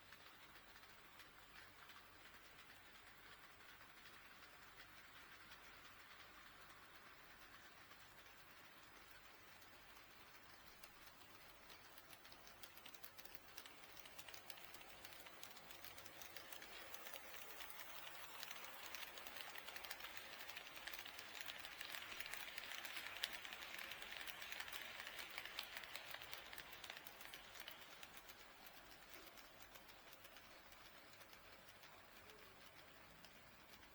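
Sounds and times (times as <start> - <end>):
model train running whir: 0.0 - 33.9
model train wheels ticking: 0.0 - 33.9.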